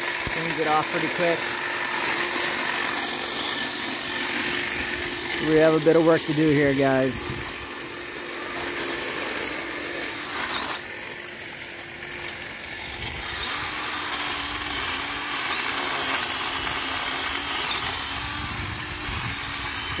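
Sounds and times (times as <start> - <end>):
electric pole saw cutting branches: 0.0 - 20.0.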